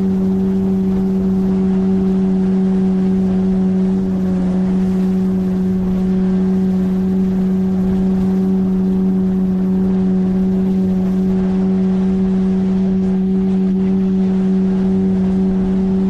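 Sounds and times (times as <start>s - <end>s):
outboard motor running steadily: 0.0s - 16.0s.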